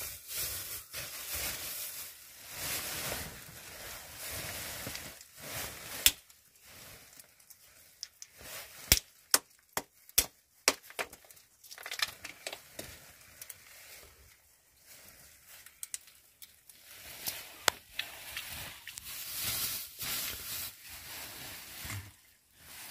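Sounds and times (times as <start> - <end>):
plastic bag crinkling: 0.0 - 22.9.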